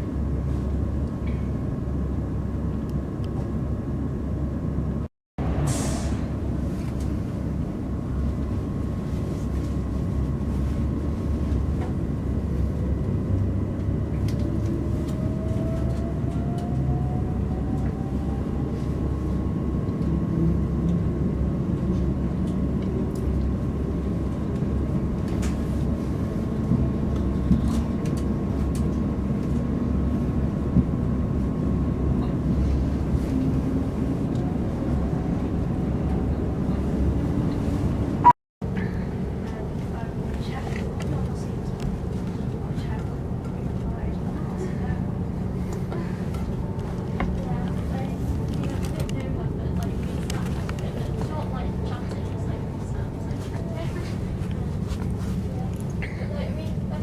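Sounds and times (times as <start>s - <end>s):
train wheels rumbling on rail: 5.4s - 57.0s.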